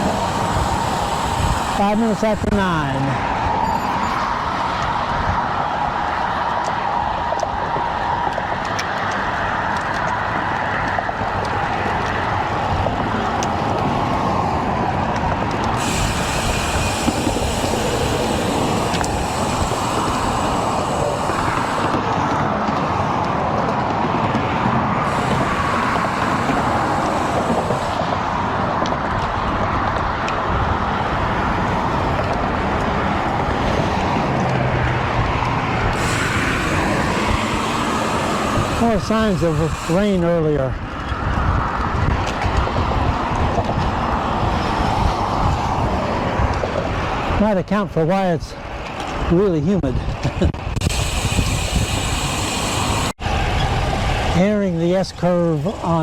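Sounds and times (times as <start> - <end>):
bicycle riding rush: 0.0 - 56.0
highway traffic passing: 0.0 - 56.0.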